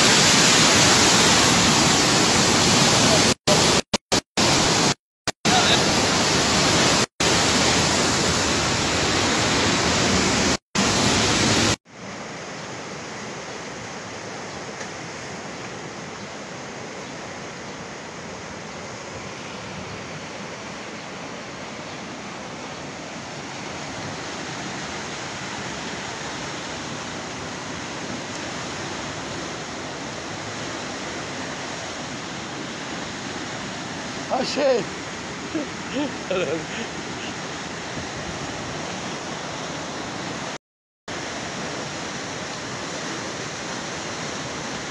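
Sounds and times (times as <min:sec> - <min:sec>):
floodwater rushing: 0:00.0 - 0:44.9.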